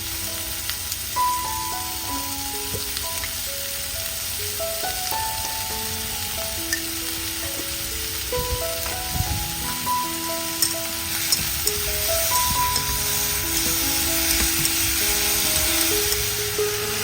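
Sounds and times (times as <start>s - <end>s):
food sizzling in hot oil: 0.0s - 17.0s
slow background music: 0.0s - 17.0s.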